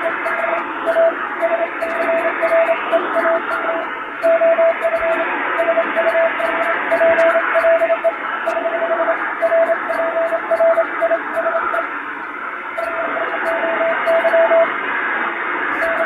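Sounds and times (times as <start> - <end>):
morse code tone: 0.0 - 11.9, 12.7 - 14.8, 15.7 - 16.0
radio static: 0.0 - 16.0.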